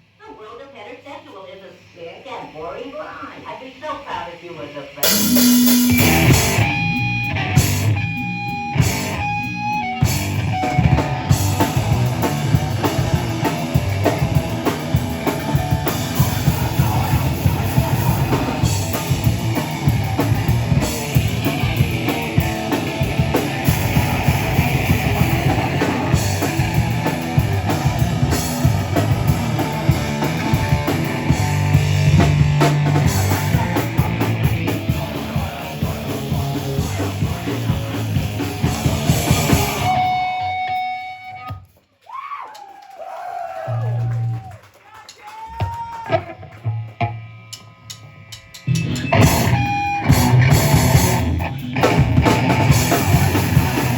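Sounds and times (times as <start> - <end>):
distorted electric guitars: 4.6 - 41.7, 45.7 - 53.9
heavy rock band playing: 4.9 - 41.6, 46.0 - 53.9
drum kit: 5.0 - 41.8, 45.0 - 53.9.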